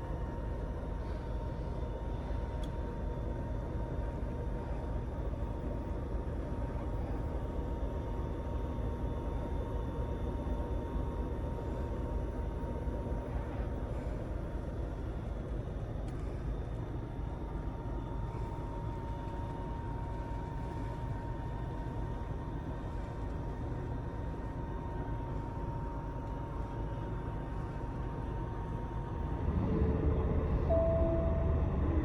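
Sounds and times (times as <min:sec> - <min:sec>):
thin steady whine: 0:00.0 - 0:32.0.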